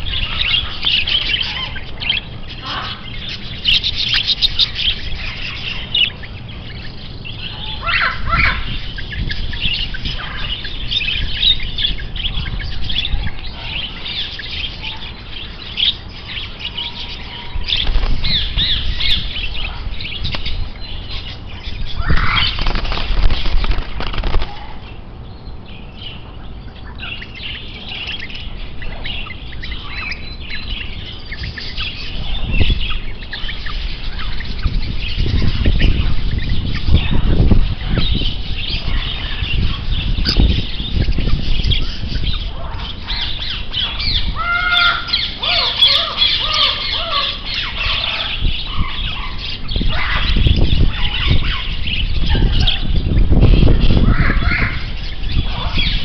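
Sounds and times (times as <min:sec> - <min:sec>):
low microphone rumble: 0:00.0 - 0:56.0
small birds chirping: 0:00.0 - 0:56.0.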